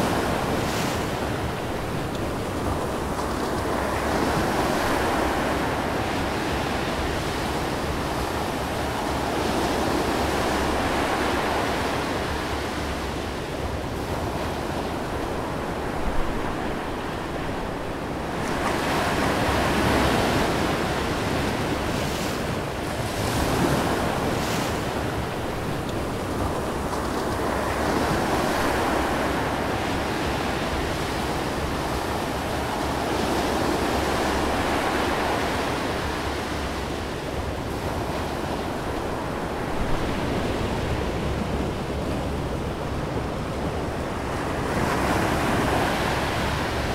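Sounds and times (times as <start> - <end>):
ocean waves and surf: 0.0 - 46.9.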